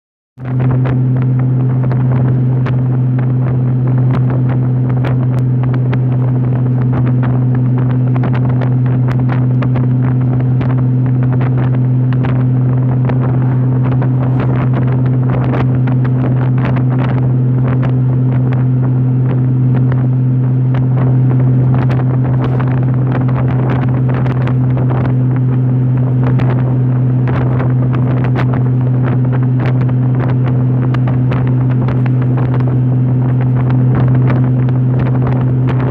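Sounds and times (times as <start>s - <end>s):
motorcycle engine drone: 0.4s - 35.9s
wind buffeting microphone: 0.4s - 35.9s.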